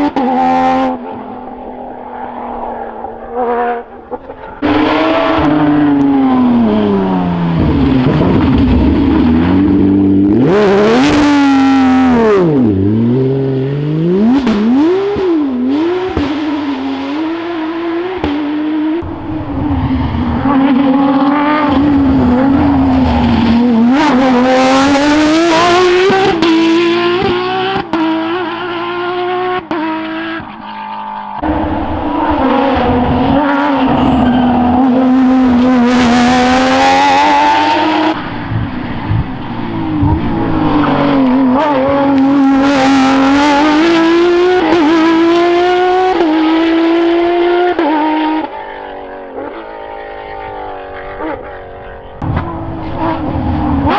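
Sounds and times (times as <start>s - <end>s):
rally car engine at full throttle: 0.0s - 53.9s.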